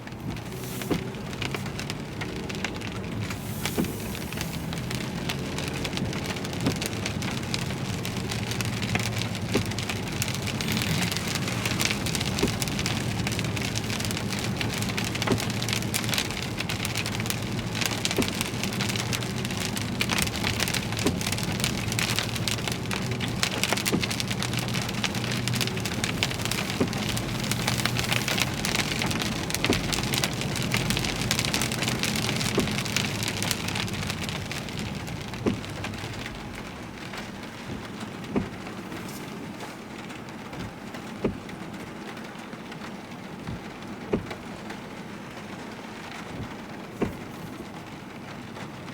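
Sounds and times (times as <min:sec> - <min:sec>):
heavy rain on a car: 0:00.0 - 0:48.9
vehicle driving hum: 0:00.0 - 0:48.9.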